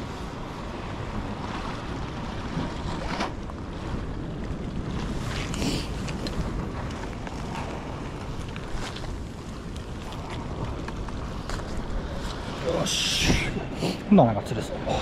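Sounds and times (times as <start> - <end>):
sea waves washing: 0.0 - 15.0
wind buffeting microphone: 0.0 - 15.0.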